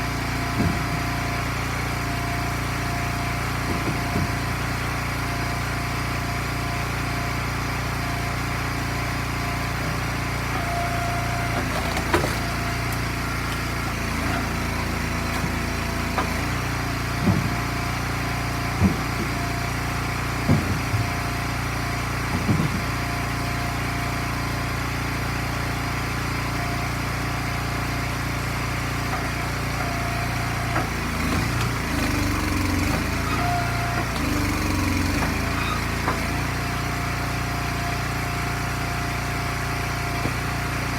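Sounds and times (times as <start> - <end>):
small gas engine running: 0.0 - 40.9.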